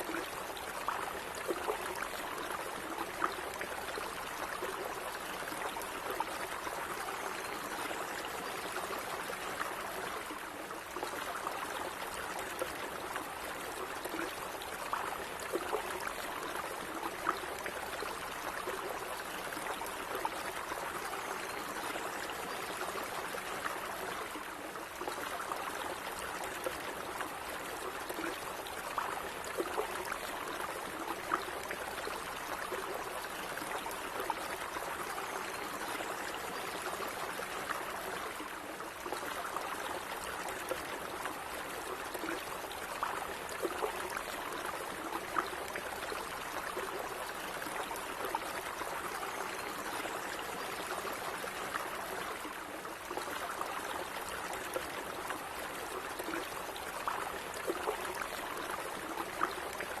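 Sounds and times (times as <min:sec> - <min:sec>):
small stream trickling: 0:00.0 - 1:00.0.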